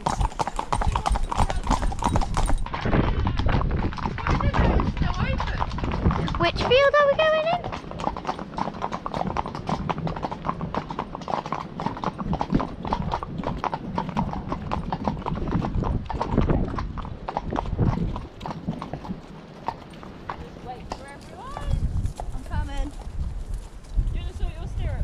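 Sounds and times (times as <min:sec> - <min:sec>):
hooves clip-clopping on tarmac: 0:00.0 - 0:25.0.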